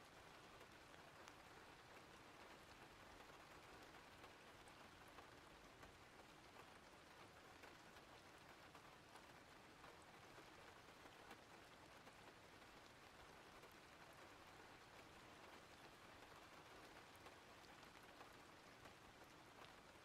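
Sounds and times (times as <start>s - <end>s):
raindrop ticks: 0.1s - 20.0s.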